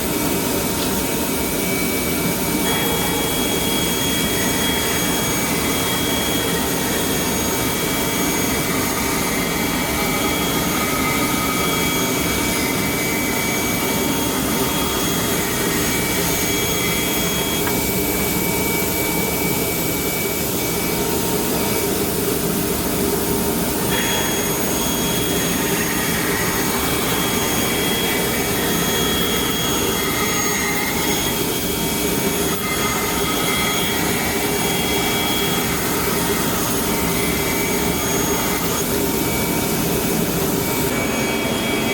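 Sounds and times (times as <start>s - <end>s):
saw machine running: 0.0s - 41.9s
thin high whine: 0.0s - 41.9s.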